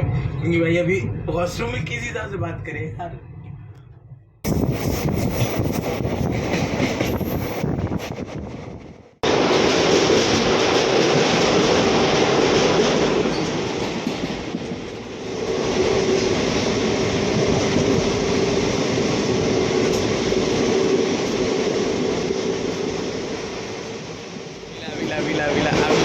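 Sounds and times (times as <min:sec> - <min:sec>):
train wheels rumbling on rails: 0:03.9 - 0:26.0.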